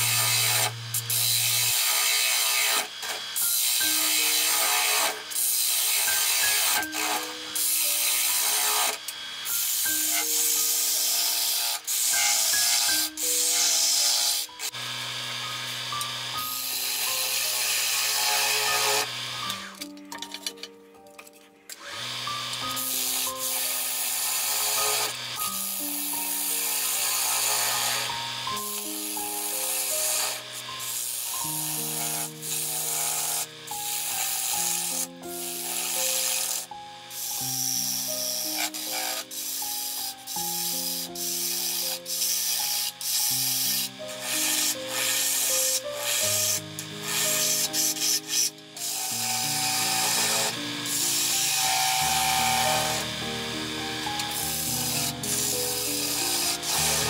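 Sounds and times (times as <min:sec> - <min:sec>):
lathe gouge cutting hiss: 0:00.0 - 0:19.7, 0:22.1 - 0:57.0
background music: 0:00.0 - 0:57.0.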